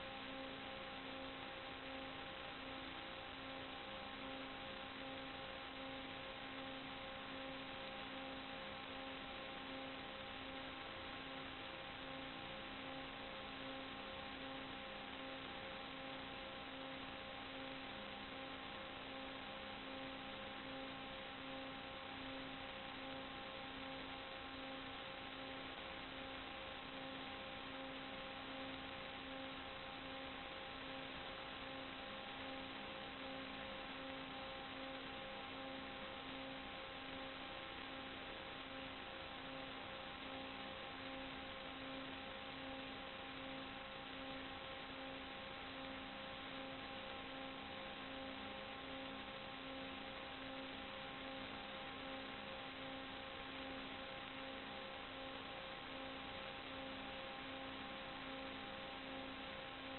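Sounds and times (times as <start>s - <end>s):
static hiss: 0.0s - 59.9s.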